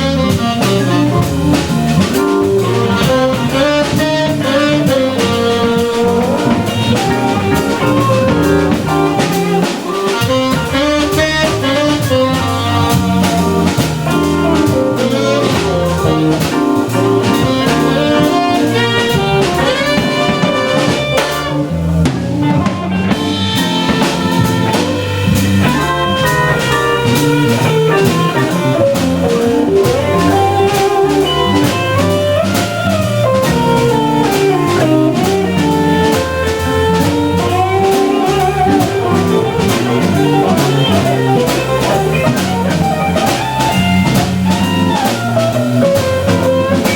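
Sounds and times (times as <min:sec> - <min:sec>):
drum kit: 0:00.0 - 0:46.9
guitar: 0:00.0 - 0:46.9
organ: 0:00.0 - 0:46.9
tenor saxophone: 0:00.0 - 0:46.9.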